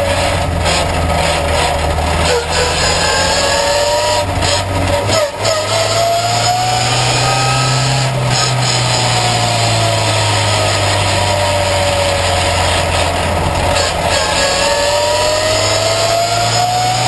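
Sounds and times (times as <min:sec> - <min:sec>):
race car engine running hard: 0:00.0 - 0:17.0
whining note: 0:00.0 - 0:17.0.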